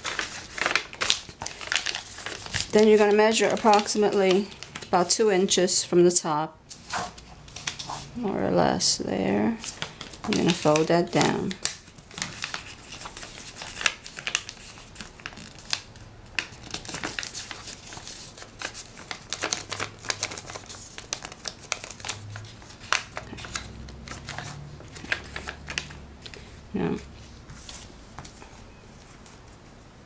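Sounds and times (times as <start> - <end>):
paper rustling and crinkling: 0.0 - 5.1, 6.7 - 8.1, 9.6 - 29.7.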